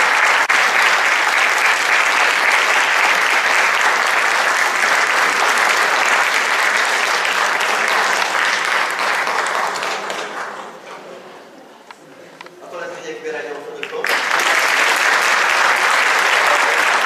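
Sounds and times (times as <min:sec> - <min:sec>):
audience applauding: 0:00.0 - 0:10.8, 0:13.8 - 0:17.0.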